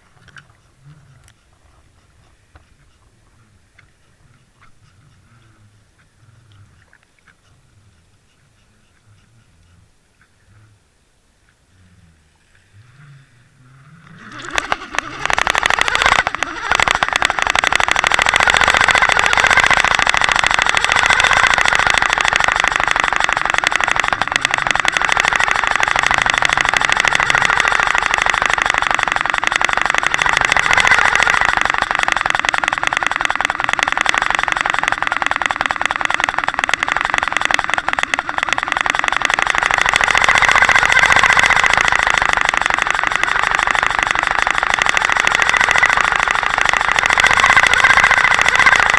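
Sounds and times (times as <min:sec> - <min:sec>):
boat motor heard underwater: 0:00.0 - 0:48.9.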